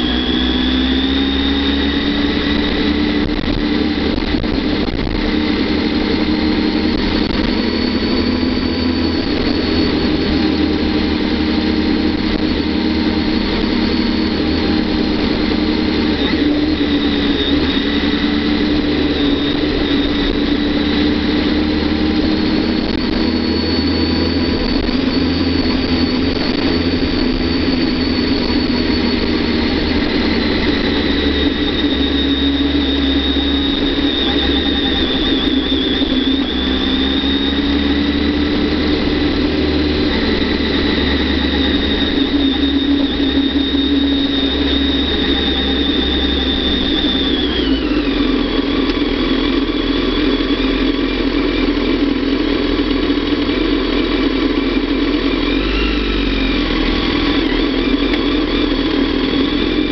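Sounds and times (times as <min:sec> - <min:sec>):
high whine: 0:00.0 - 0:59.9
motorcycle engine running: 0:00.0 - 0:59.9
wind and road noise: 0:00.0 - 0:59.9.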